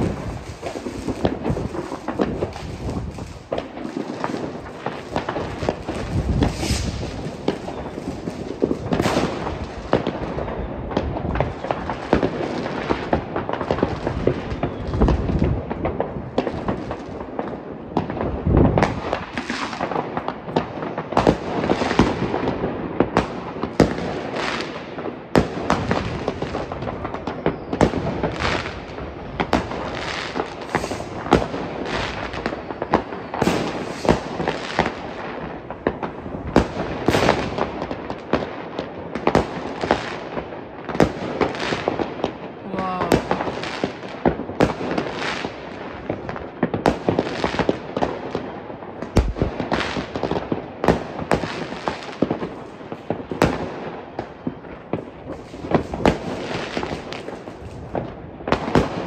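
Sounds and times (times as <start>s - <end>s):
fireworks bangs and crackles: 0.0s - 59.0s
heavy firework booms: 0.0s - 59.0s.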